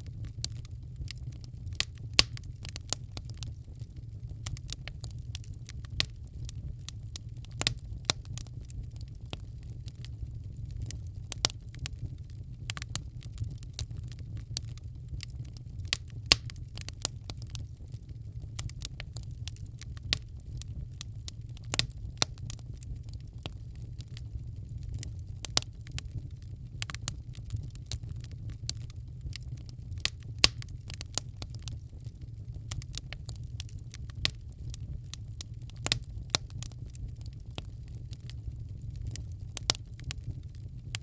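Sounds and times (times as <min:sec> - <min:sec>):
low rumble of burning: 0:00.0 - 0:41.0
wood fire crackling and popping: 0:00.0 - 0:41.0.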